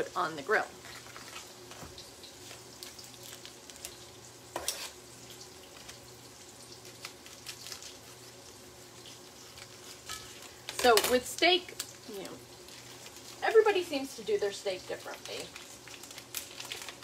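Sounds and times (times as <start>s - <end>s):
mushrooms sizzling in a pan: 0.0s - 17.0s.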